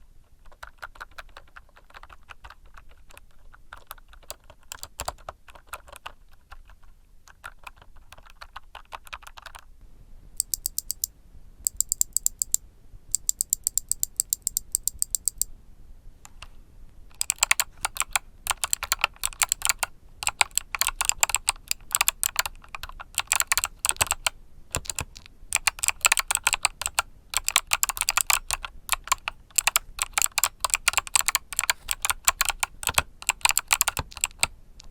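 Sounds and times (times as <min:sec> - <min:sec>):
typing on mechanical keyboard: 0:00.4 - 0:09.7, 0:10.4 - 0:11.1, 0:11.7 - 0:12.6, 0:13.2 - 0:15.5, 0:17.1 - 0:34.9.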